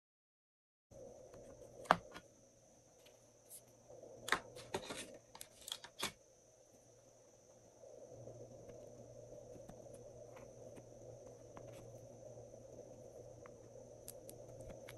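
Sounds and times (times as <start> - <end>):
faint steady hiss: 0.9 - 14.9.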